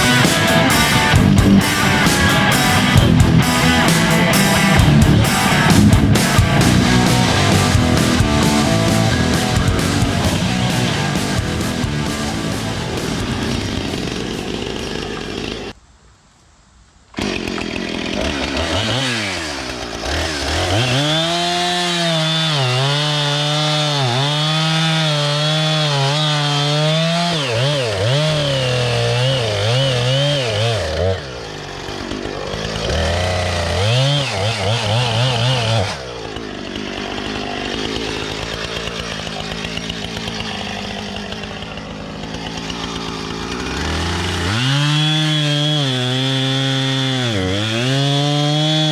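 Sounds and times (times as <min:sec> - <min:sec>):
chainsaw cutting wood: 0:00.0 - 0:15.8, 0:17.2 - 0:48.9.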